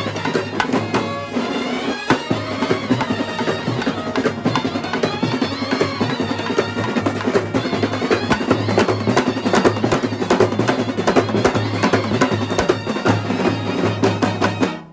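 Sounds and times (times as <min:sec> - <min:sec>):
brass band playing: 0:00.0 - 0:14.9
fast dense drumming: 0:00.0 - 0:14.9.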